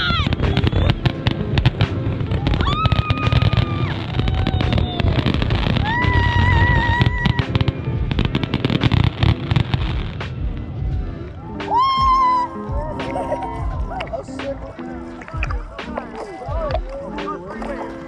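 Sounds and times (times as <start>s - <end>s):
fireworks bangs and crackles: 0.0s - 14.6s
music playing: 0.0s - 18.0s.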